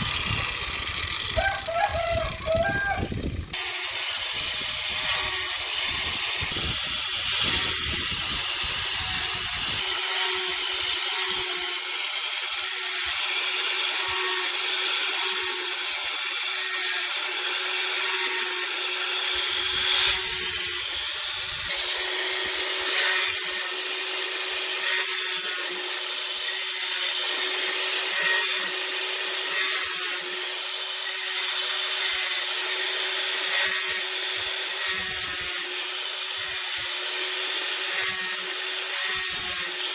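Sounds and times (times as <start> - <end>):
power tool running: 0.0 - 39.9.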